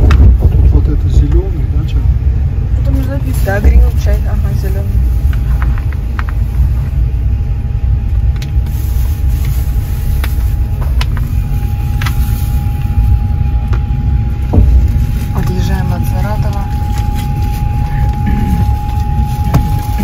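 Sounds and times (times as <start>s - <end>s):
faint steady whine: 0.0s - 20.0s
train carriage low rumble: 0.0s - 20.0s.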